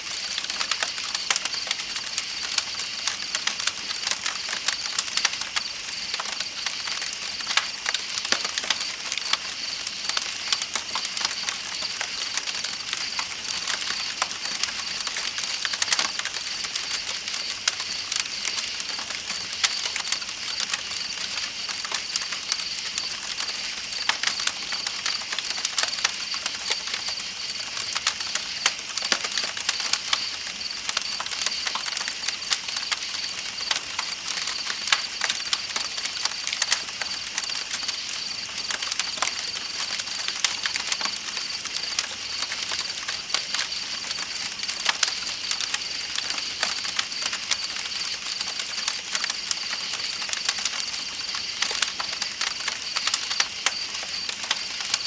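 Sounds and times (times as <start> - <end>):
campfire crackling and popping: 0.1 - 55.0
night insects chirping: 0.1 - 55.0.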